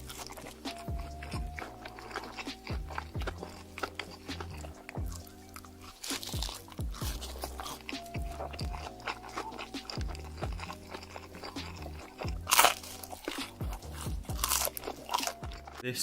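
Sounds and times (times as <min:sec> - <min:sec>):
crunchy chewing: 0:00.0 - 0:15.8
music with deep bass beat: 0:00.0 - 0:15.8.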